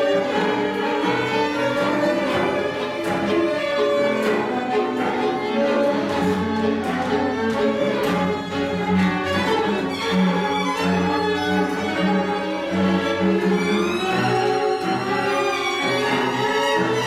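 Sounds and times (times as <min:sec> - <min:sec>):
cello: 0:00.0 - 0:17.0
violins: 0:00.0 - 0:17.0.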